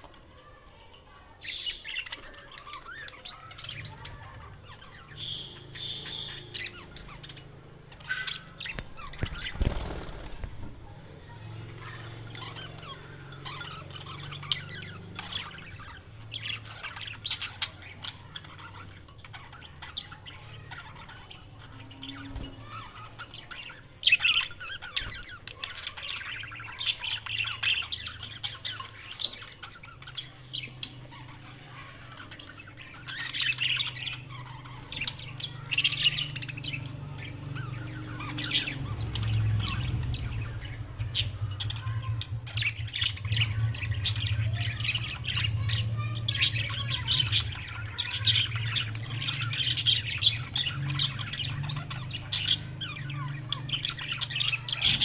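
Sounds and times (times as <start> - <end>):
budgerigars chirping and squawking: 0.0 - 55.0.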